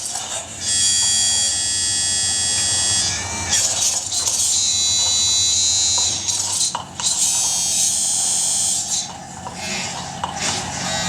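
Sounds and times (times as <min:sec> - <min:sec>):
low hum: 0:00.4 - 0:11.0
buzzing high synthetic tones: 0:00.6 - 0:11.0.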